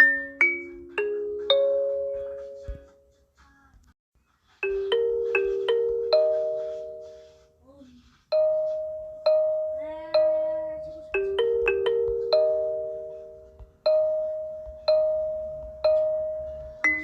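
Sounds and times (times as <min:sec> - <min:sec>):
kalimba melody: 0:00.0 - 0:03.2, 0:04.6 - 0:07.5, 0:08.3 - 0:17.0.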